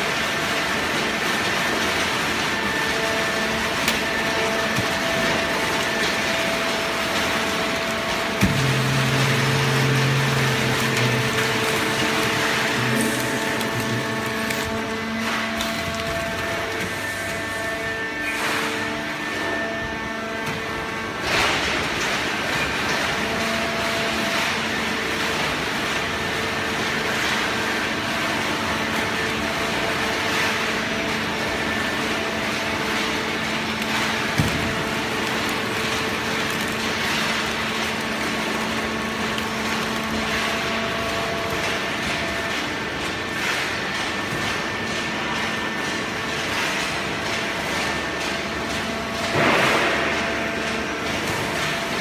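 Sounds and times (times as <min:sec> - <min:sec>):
hydraulic baler hum and whine: 0:00.0 - 0:52.0.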